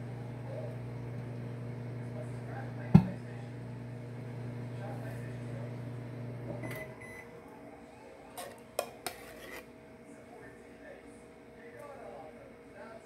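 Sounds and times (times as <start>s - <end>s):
microwave oven humming: 0.0s - 9.0s, 9.6s - 13.0s.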